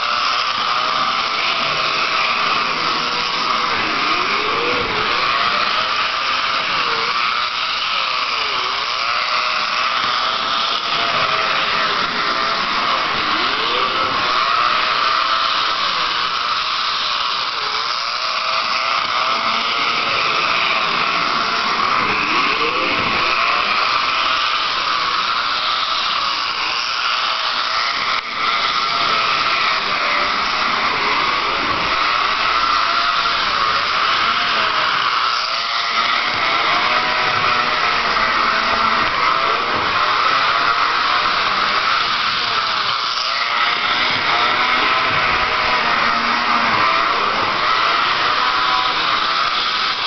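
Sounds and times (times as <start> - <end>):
small electric motor whining: 0.0 - 50.0.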